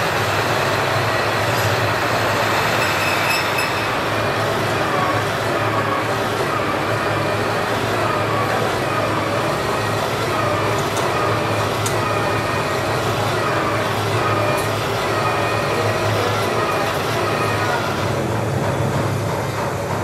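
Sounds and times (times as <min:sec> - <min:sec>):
workshop machinery drone: 0:00.0 - 0:20.0.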